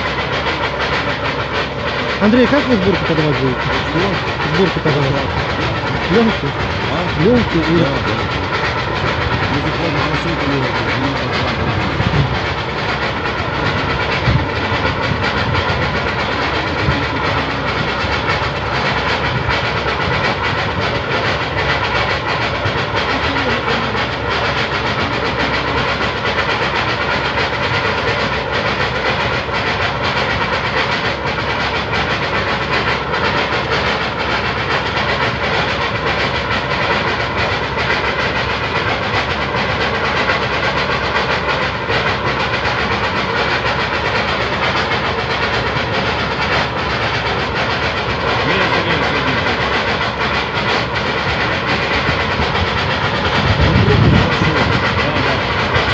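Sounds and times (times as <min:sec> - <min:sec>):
gas jetting from a well: 0:00.0 - 0:55.9.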